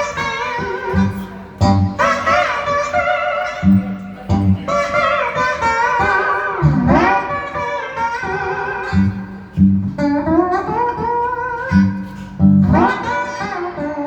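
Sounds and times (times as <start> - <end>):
sliding blues guitar melody: 0.0 - 14.0.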